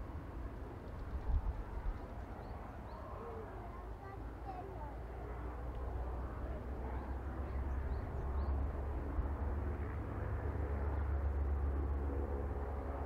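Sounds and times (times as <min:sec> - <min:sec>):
helicopter rotor rumble: 0:00.0 - 0:13.0.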